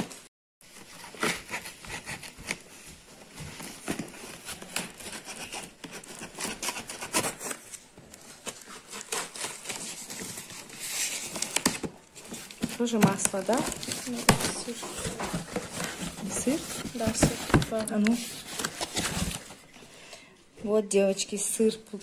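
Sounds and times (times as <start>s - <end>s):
cardboard rubbing and crinkling: 0.7s - 19.7s
box flaps rustling: 0.9s - 19.7s.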